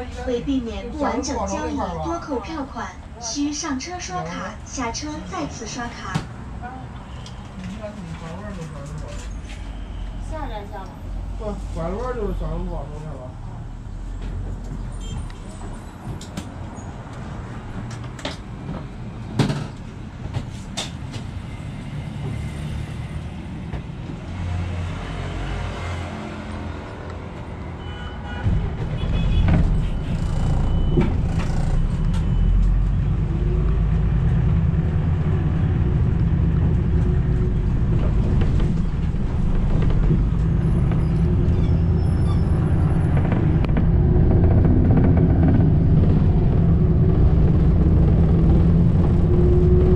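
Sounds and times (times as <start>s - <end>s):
bus engine rumble: 0.0s - 49.9s.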